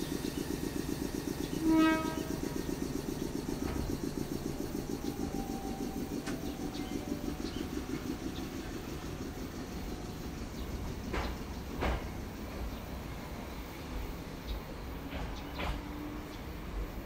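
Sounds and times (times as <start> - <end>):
train low pulsing rumble: 0.0 - 17.0.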